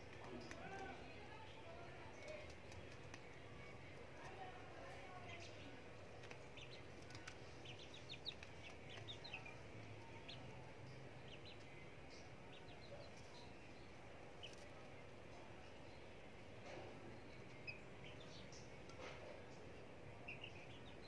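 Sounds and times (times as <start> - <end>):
chicks chirping: 1.4 - 16.3, 16.9 - 21.0.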